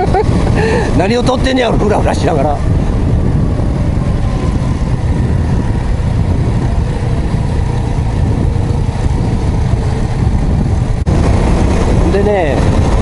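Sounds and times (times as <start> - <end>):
heavy low rumble: 0.0 - 13.0
motorcycle engine running: 0.0 - 13.0.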